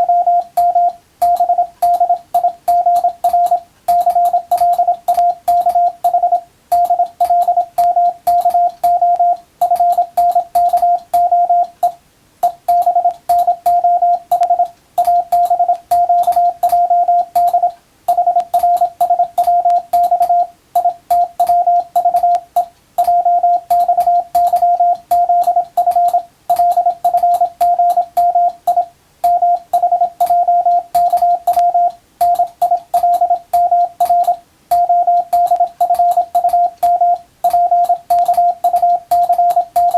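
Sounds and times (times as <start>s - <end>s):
keying clicks: 0.0s - 39.9s
morse code beeps: 0.0s - 39.9s.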